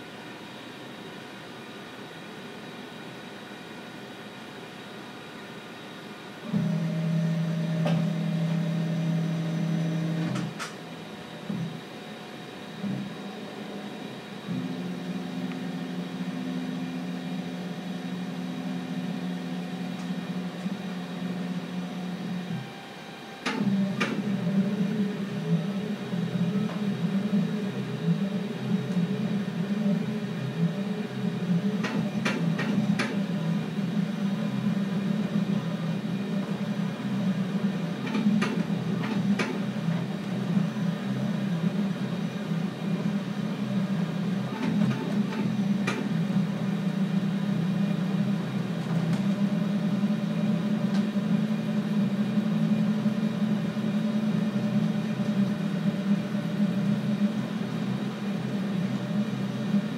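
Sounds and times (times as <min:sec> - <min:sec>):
stepper motors humming: 0:06.4 - 0:59.9.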